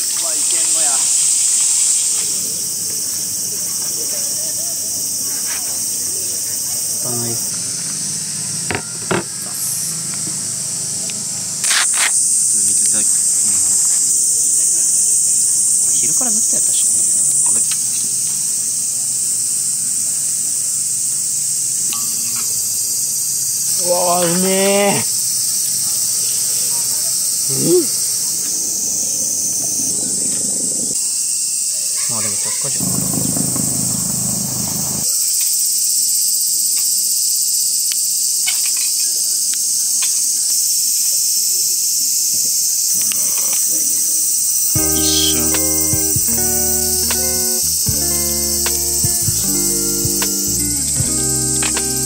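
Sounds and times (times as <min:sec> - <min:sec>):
insects shrilling: 0:00.0 - 0:52.0.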